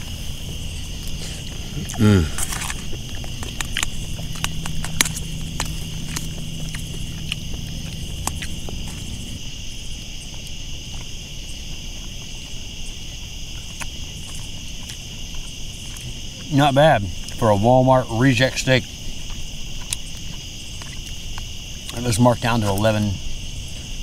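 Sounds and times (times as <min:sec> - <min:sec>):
crickets and insects chirring: 0:00.0 - 0:24.0
faint low hum: 0:00.0 - 0:24.0.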